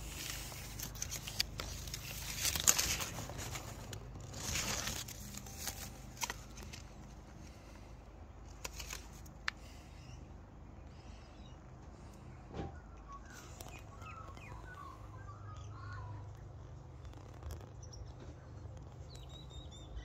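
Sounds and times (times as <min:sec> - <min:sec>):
leaves and plastic tags rustling: 0:00.0 - 0:10.1, 0:13.3 - 0:19.7.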